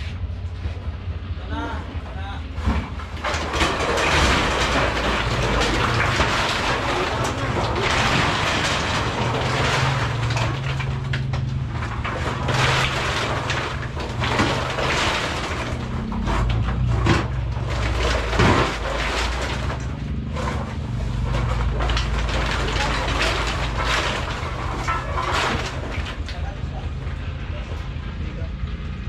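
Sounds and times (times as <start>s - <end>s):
truck engine running: 0.0s - 29.0s
coconut shells clattering: 2.5s - 29.0s.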